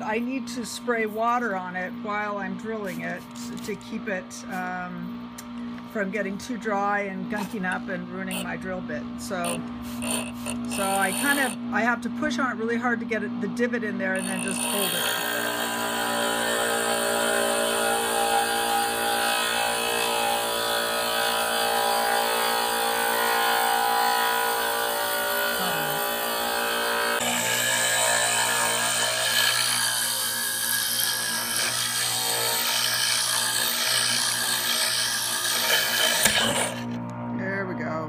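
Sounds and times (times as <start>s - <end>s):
motor hum: 0.0s - 38.0s.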